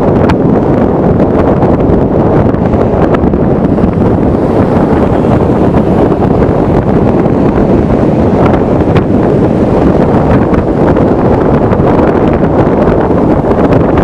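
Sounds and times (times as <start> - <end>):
vehicle driving rumble: 0.0 - 14.0
wind buffeting microphone: 0.0 - 14.0.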